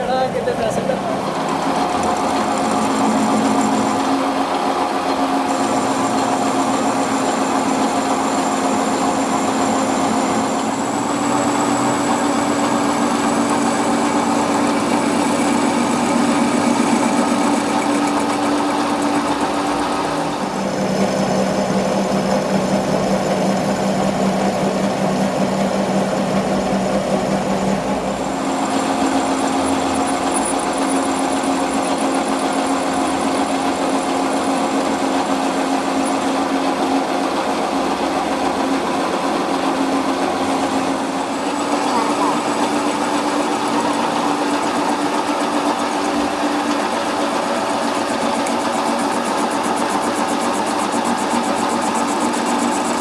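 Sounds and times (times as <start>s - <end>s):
machine motor humming: 0.0s - 53.0s.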